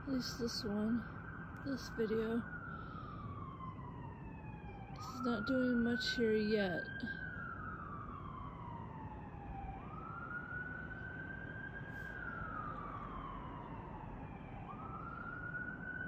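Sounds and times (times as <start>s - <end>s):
emergency siren wailing: 0.0s - 16.0s.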